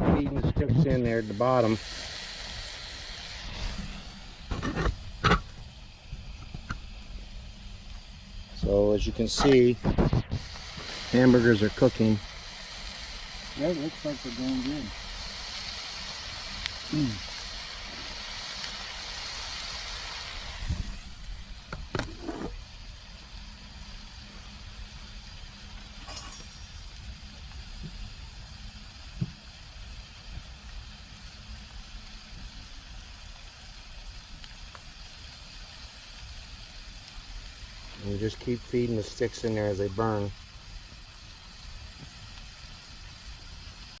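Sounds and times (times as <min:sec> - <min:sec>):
hamburgers sizzling in pan: 0:00.0 - 0:44.0
sharp cracks of fire: 0:00.0 - 0:44.0
wood fire rumbling: 0:00.0 - 0:44.0.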